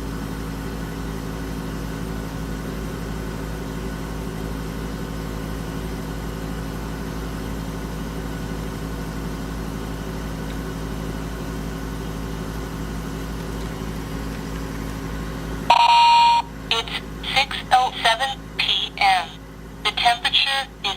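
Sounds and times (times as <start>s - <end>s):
air conditioner humming: 0.0s - 20.9s.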